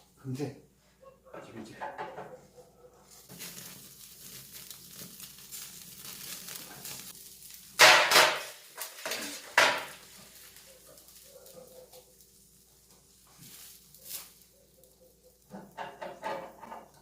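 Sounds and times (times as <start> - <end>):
meat sizzling on a grill: 3.0 - 17.0.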